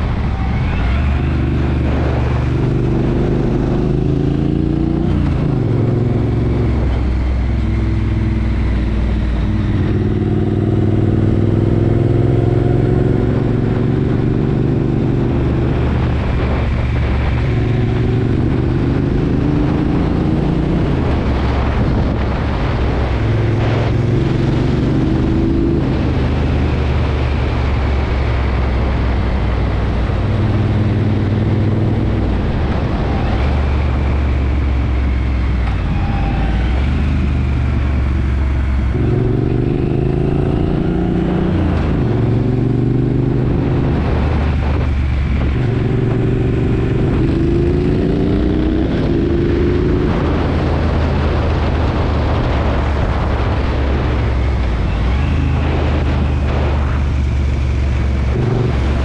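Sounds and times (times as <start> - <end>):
motorcycle engine revving: 0.0 - 59.0
wind rush on microphone: 0.0 - 59.0.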